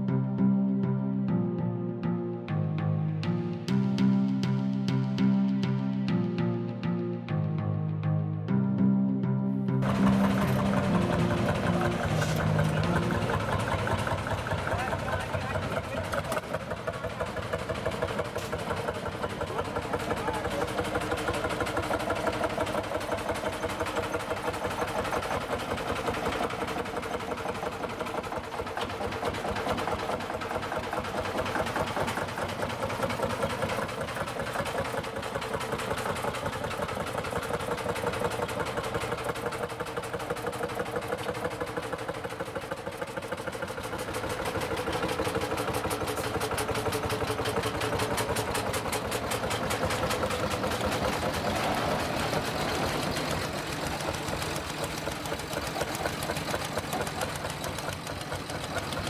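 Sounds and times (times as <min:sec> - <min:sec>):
tractor engine idling: 0:09.8 - 0:59.0.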